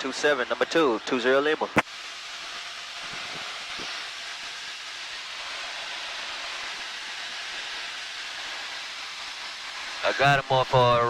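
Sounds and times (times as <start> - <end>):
airflow hiss and engine noise: 0.0 - 11.0.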